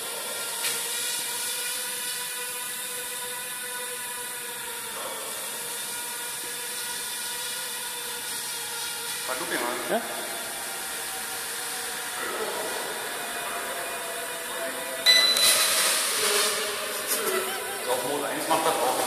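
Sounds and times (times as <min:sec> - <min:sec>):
small drone motors whining: 0:00.0 - 0:19.0.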